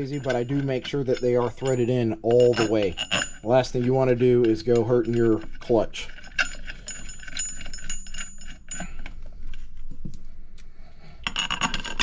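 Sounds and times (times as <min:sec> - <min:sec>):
metal bolts clinking: 0:00.0 - 0:10.3, 0:11.2 - 0:12.0.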